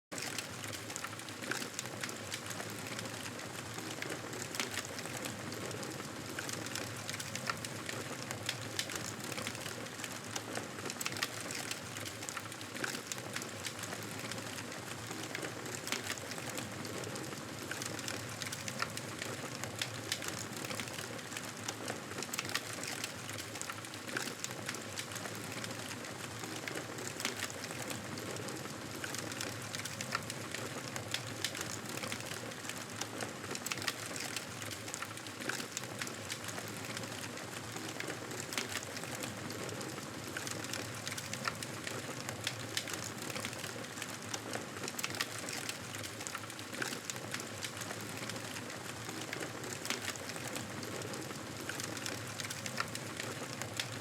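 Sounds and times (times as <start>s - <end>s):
wood fire crackling: 0.2s - 54.0s.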